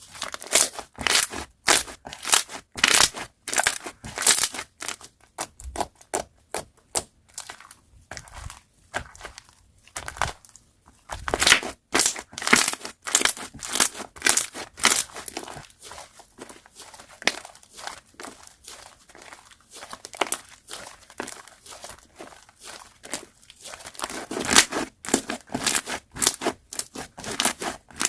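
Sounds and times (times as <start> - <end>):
slime crackling and crunching: 0.1 - 6.1, 6.9 - 10.5, 11.1 - 28.0.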